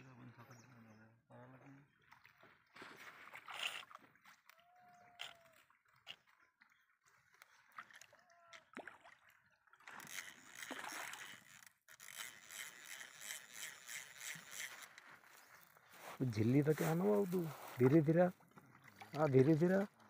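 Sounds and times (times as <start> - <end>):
water sloshing and splashing: 2.0 - 15.9, 16.9 - 20.0.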